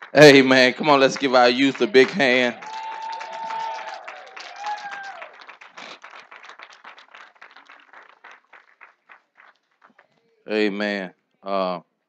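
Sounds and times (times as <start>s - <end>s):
congregation applauding: 0.0s - 10.7s.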